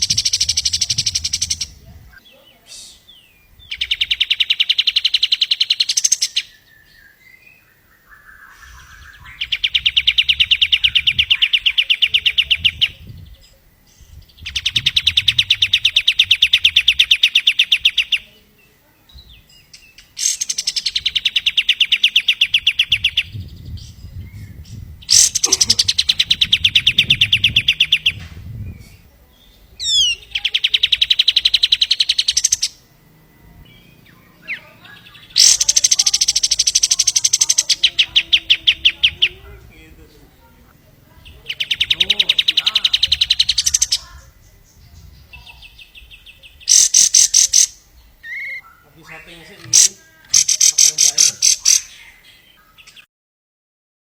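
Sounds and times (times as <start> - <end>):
bird singing fast trill: 0.0 - 39.6, 41.2 - 53.1.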